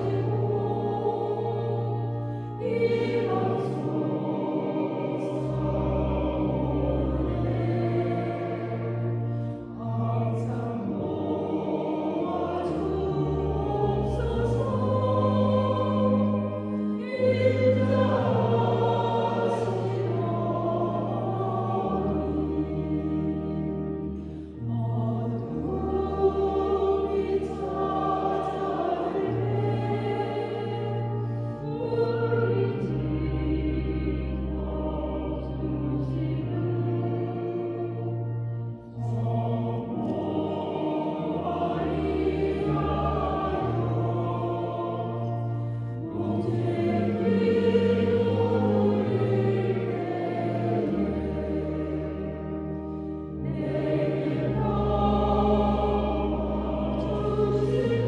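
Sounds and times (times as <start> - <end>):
keyboard accompaniment: 0.0 - 58.0
person singing a hymn: 0.0 - 58.0.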